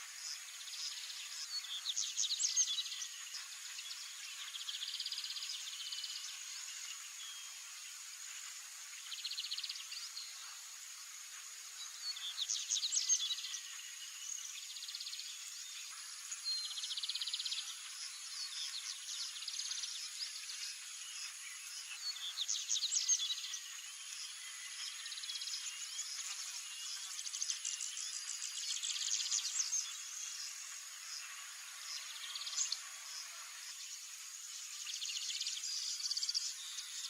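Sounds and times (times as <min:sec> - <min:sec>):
high insect drone: 0:00.0 - 0:37.0.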